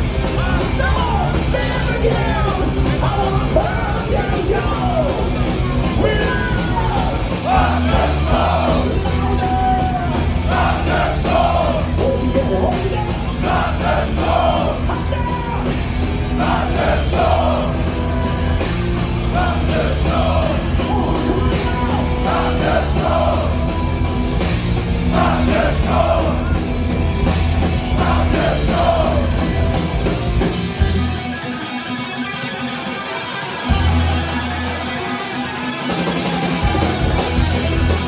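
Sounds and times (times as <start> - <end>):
bass guitar: 0.0 - 38.0
distorted electric guitars: 0.0 - 38.0
drums: 0.0 - 38.0.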